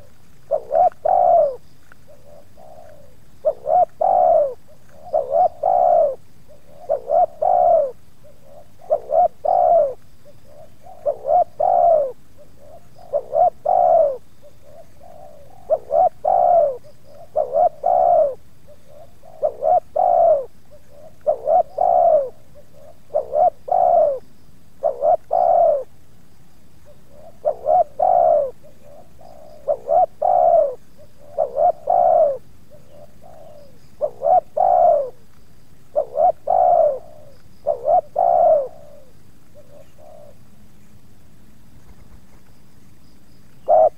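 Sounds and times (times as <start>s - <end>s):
doves cooing: 0.0s - 26.0s, 26.8s - 40.6s, 43.5s - 43.9s.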